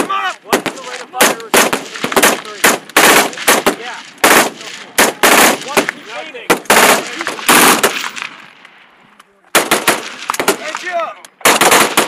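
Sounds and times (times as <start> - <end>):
machine-gun fire: 0.0 - 8.4, 9.6 - 10.7, 11.4 - 12.0.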